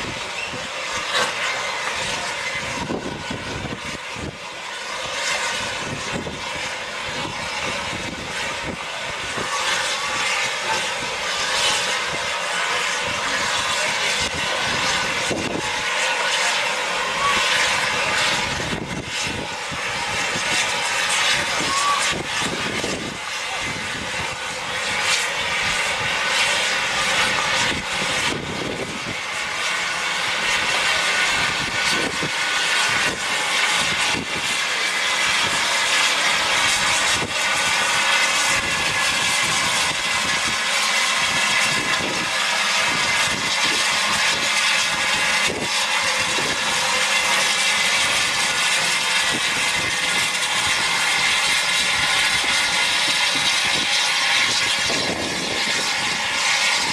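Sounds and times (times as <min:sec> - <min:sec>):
steam hissing from locomotive: 0:00.0 - 0:56.9.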